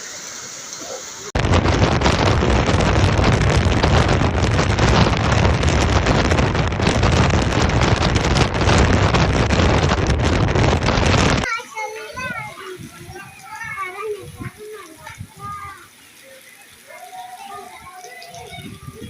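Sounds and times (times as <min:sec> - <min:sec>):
wind buffeting microphone: 0:01.4 - 0:15.8, 0:17.8 - 0:19.0.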